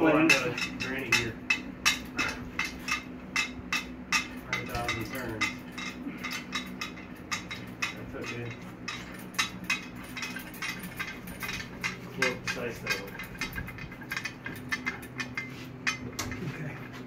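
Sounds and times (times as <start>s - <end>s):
light metallic clicks and clinks: 0.0s - 16.8s
steady low hum: 0.0s - 17.0s.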